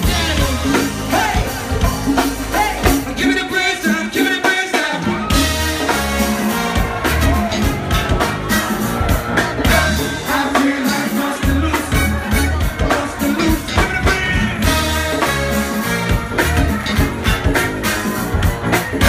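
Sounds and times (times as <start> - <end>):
repeating bass line: 0.0 - 3.9, 5.1 - 19.0
drum beat: 0.0 - 19.0.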